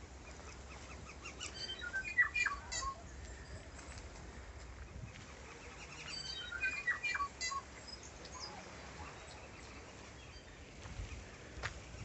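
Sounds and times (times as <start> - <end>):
bird singing varied notes: 0.2 - 4.0, 5.0 - 12.0.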